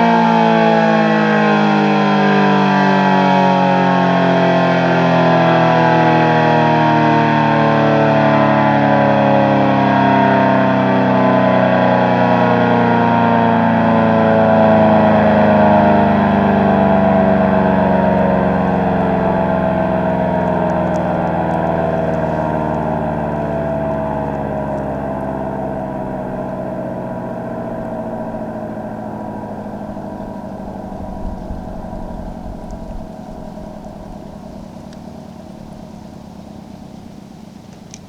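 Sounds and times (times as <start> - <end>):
dual-tone siren sinking in pitch: 0.0 - 38.0.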